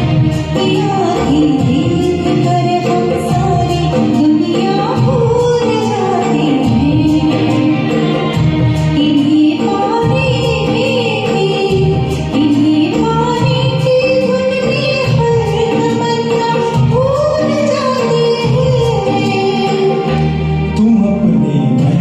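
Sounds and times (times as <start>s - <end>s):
steady percussion beat: 0.0s - 14.4s, 18.4s - 22.0s
person singing karaoke: 0.0s - 22.0s
recorded backing track: 0.0s - 22.0s.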